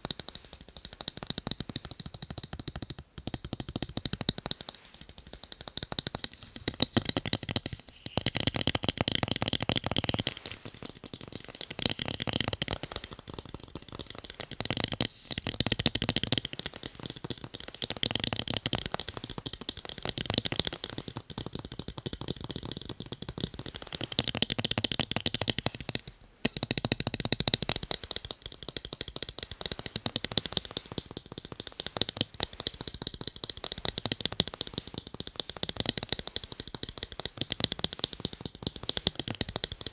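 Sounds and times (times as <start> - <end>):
fast tapping on eyeglasses: 0.0 - 39.9.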